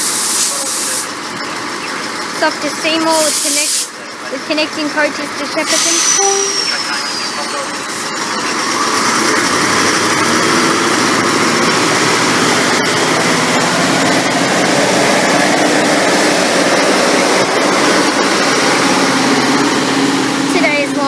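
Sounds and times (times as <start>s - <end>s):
diesel railcars droning: 0.0s - 21.0s.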